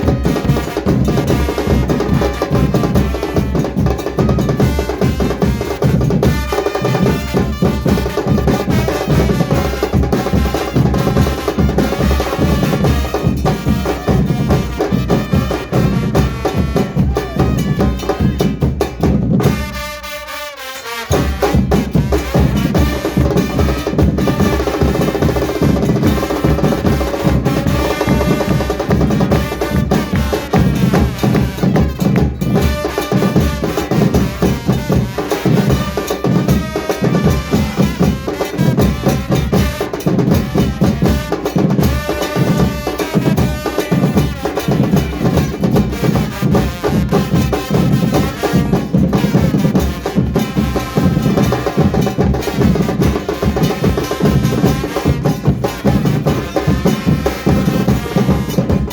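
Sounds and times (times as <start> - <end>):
percussion band drumming: 0.0 - 58.9.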